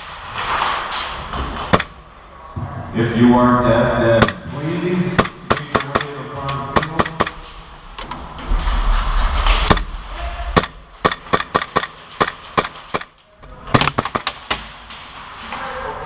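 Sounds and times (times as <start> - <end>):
airsoft guns firing: 0.3 - 2.1, 4.2 - 15.4.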